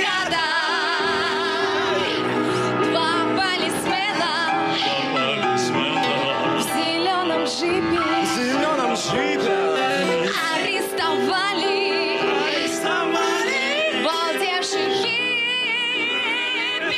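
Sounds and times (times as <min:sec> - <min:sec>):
grand piano: 0:00.0 - 0:16.9
people singing blues: 0:00.0 - 0:16.9.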